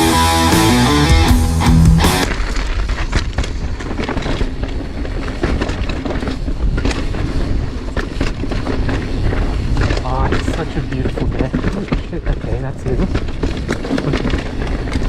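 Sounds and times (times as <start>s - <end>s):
bike rattling and knocking: 2.2s - 15.0s
mountain bike rolling on dirt: 2.2s - 15.0s.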